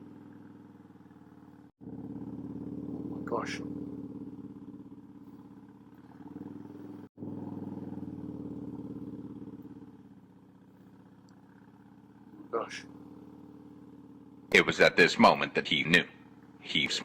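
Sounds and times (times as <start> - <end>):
motorcycle engine pulsing: 0.0 - 17.0.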